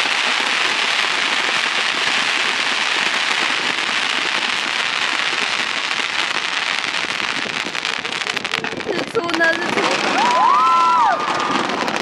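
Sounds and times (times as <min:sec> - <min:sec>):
firework crackle stars bursting: 0:00.0 - 0:12.0.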